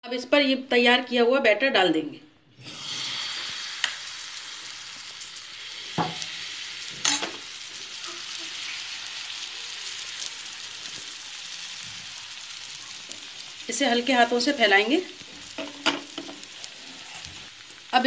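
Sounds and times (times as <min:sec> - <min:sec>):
batter sizzling in oil: 0:02.6 - 0:18.0.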